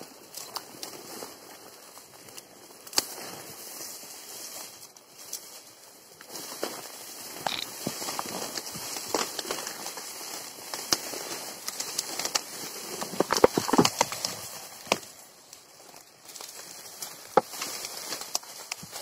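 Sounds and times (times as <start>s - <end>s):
dry reed stems crackling: 0.0s - 19.0s.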